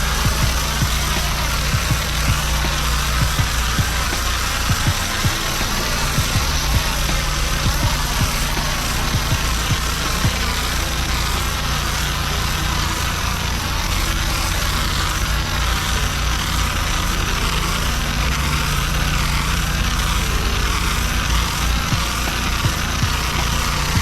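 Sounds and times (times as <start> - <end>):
high-pressure water spraying: 0.0 - 24.0
pressure washer engine running: 0.0 - 24.0.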